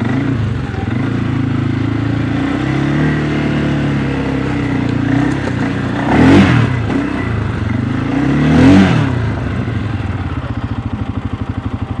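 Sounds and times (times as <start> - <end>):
atv engine idling: 0.0 - 12.0
atv engine revving: 0.0 - 12.0.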